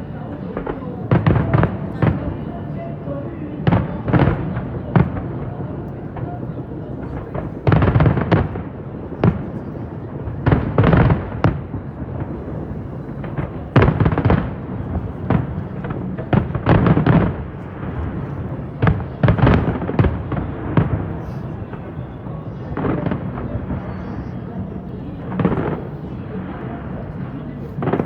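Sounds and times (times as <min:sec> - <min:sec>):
fireworks bursting: 0:00.0 - 0:02.4, 0:03.6 - 0:05.5, 0:07.0 - 0:27.2.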